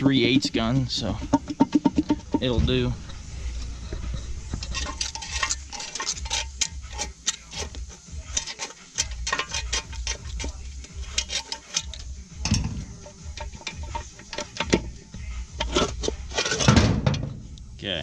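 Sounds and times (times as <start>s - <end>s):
metal tools clinking: 0.0s - 16.9s
steady low hum: 0.0s - 18.0s.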